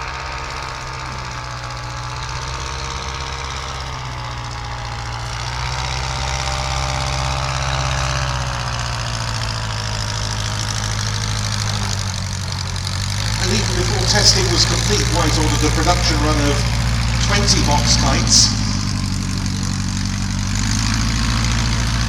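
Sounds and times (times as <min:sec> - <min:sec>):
aircraft engine flying past: 0:00.0 - 0:22.0.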